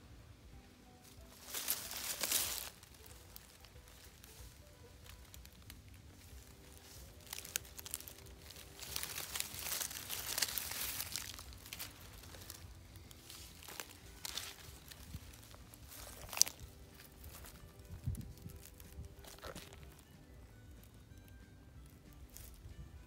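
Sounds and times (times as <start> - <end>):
dry leaves crackling and crunching: 0.9 - 22.8.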